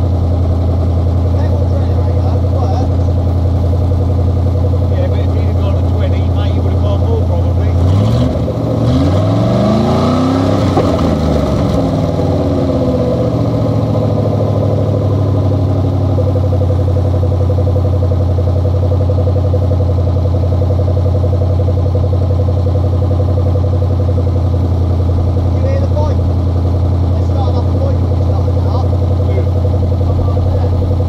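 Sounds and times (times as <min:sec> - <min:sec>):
engine revving and idling: 0:00.0 - 0:31.0.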